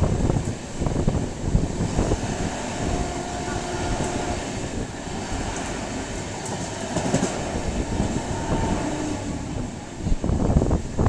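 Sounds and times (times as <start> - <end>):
train knocks: 0.0 - 11.0
train rumbling with wheel clatter: 0.0 - 11.0.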